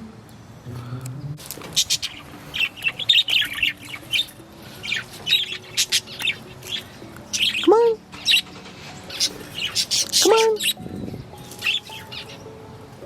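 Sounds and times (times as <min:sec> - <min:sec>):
budgerigars chirping and squawking: 0:01.6 - 0:12.6.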